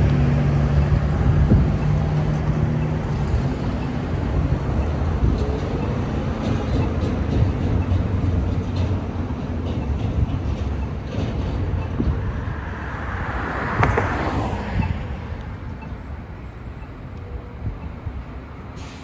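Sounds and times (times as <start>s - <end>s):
passing vehicles: 0.0s - 19.0s.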